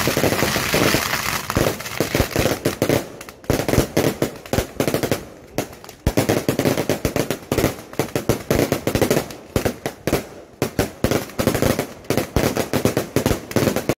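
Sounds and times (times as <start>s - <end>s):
firecrackers cracking: 0.0s - 14.0s.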